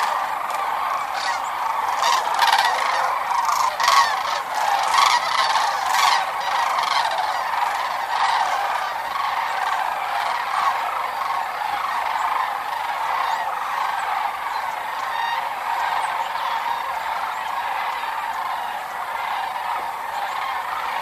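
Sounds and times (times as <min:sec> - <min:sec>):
cranes calling: 0:00.0 - 0:21.0.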